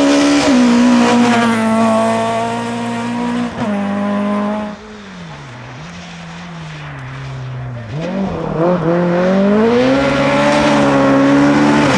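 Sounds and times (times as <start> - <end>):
distant rally car engine: 0.0 - 11.9
rally car engine revving: 0.0 - 11.9.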